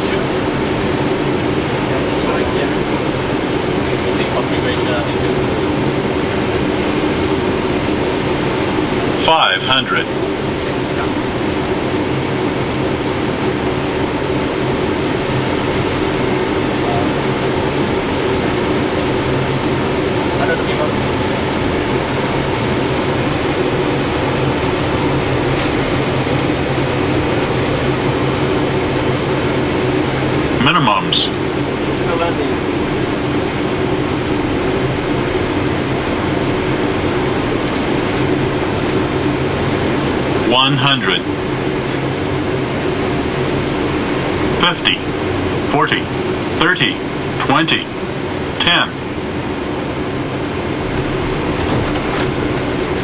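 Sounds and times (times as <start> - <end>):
airflow rushing over flight deck: 0.0 - 53.0
constant low hum: 0.0 - 53.0.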